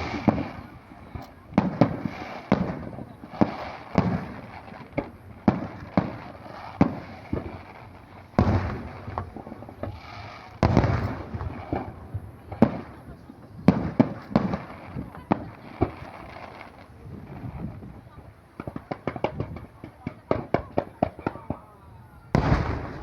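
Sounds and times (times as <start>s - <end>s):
fireworks bangs with echoes: 0.0s - 23.0s.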